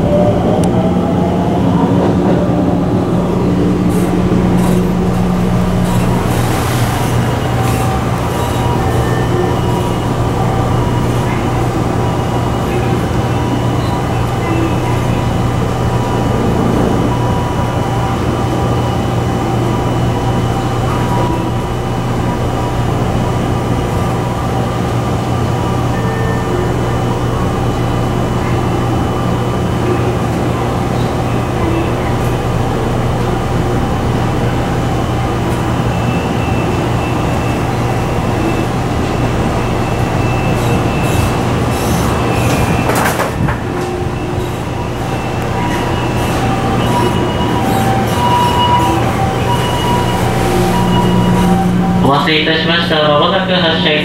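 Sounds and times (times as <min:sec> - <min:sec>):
electric train hum: 0:00.0 - 0:54.0.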